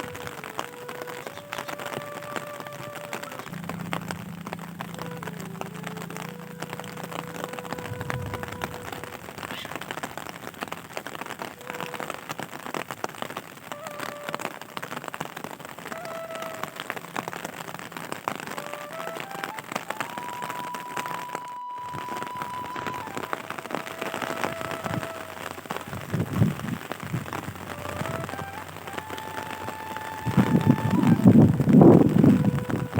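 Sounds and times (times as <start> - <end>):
rain pattering: 0.0 - 32.9.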